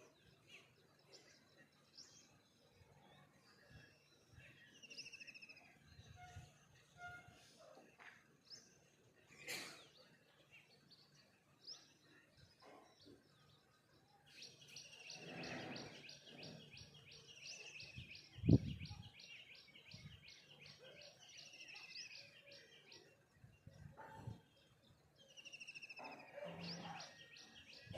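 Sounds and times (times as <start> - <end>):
birds chirping: 0.0 - 27.9.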